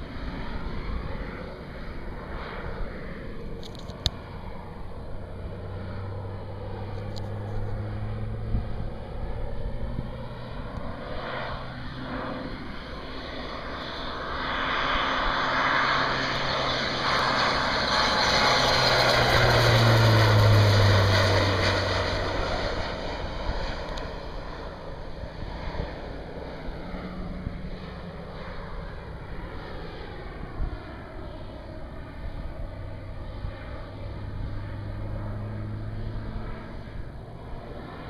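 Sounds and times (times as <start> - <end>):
propeller plane engine drone: 0.0 - 38.0.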